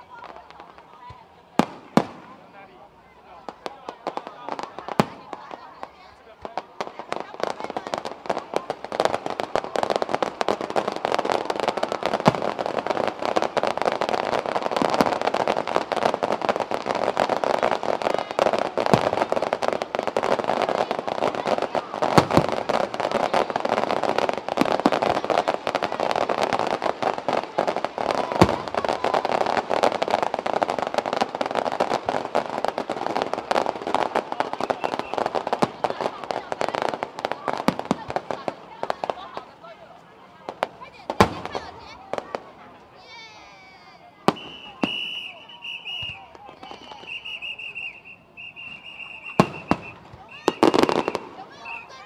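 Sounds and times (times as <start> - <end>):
fireworks crackling pops and bangs: 0.0 - 52.0
loud firework bursts: 0.0 - 52.0.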